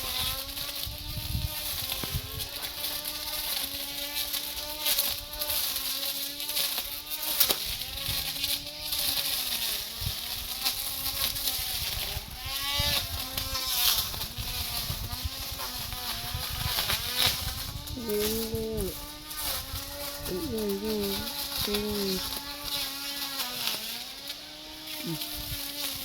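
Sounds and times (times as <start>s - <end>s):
brush cutter engine buzzing: 0.0s - 26.0s.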